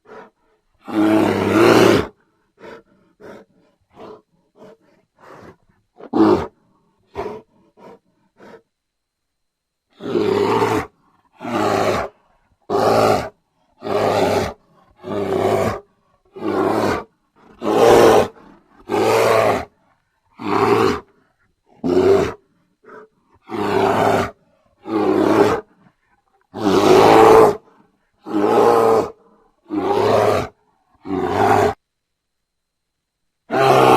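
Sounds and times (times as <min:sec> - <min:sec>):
bear roaring and growling: 0:00.1 - 0:08.6, 0:09.9 - 0:19.7, 0:20.3 - 0:31.8, 0:33.5 - 0:33.9.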